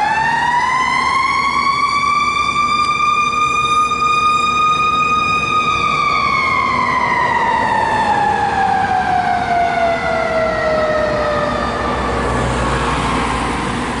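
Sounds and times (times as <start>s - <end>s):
fire engine siren winding down: 0.0s - 14.0s.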